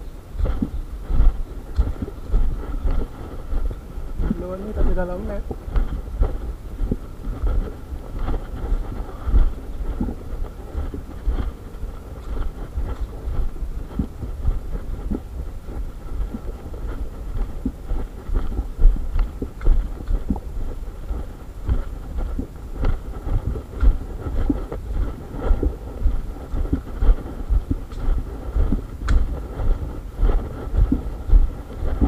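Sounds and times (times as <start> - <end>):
footsteps on dry leaves: 0.4 - 32.0.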